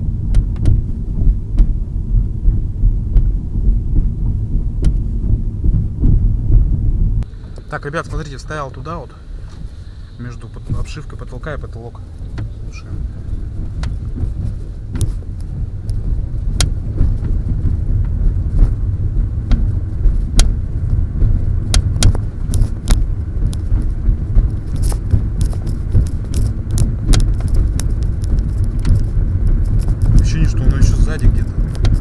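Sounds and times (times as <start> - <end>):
car cabin rumble while driving: 0.0 - 32.0
sharp body clicks: 0.2 - 32.0.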